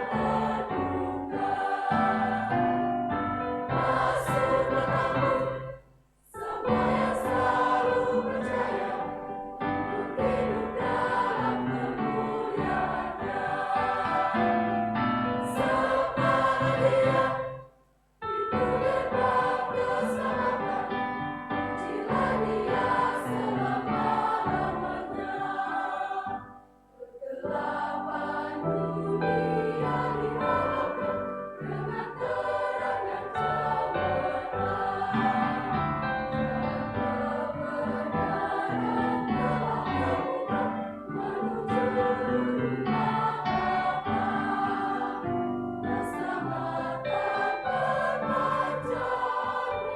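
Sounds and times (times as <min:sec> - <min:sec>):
church choir singing a hymn: 0:00.0 - 0:49.9.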